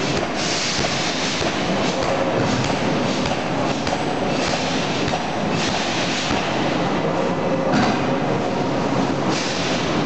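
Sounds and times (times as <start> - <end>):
forge machinery noise: 0.0 - 10.0.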